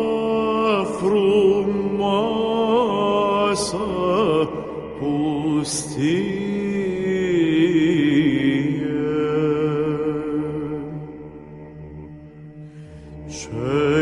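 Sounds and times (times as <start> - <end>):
man singing slow spiritual song: 0.0 - 11.6, 13.3 - 14.0.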